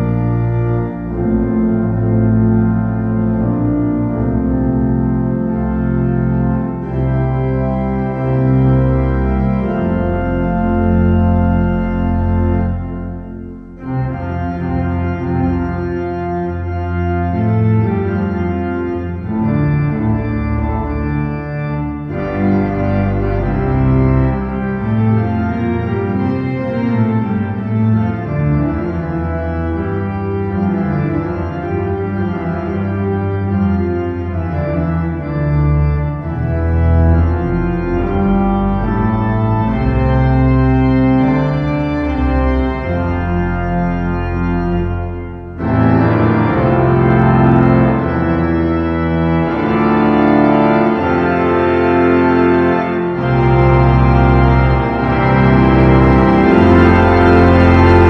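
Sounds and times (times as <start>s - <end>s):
sustained keyboard chords: 0.0s - 58.0s.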